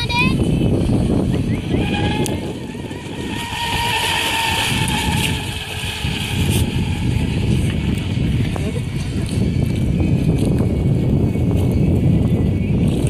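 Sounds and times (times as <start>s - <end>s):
hull skimming water: 0.0s - 13.0s
low rumble: 0.0s - 13.0s
electric motor high whine: 0.5s - 13.0s.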